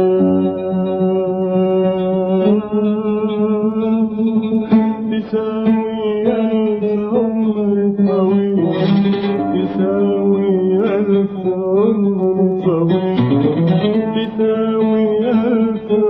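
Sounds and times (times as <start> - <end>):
man singing long notes: 0.0 - 16.0
plucked oud: 0.0 - 16.0.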